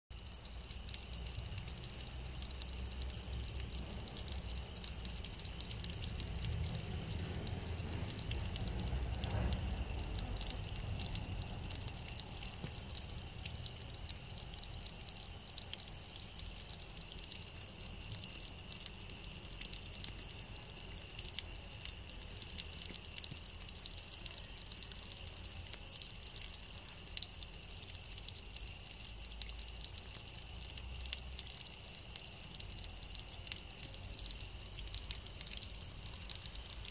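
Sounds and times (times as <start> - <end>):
water trickling down stone wall: 0.0 - 36.9
water drips: 0.1 - 36.9.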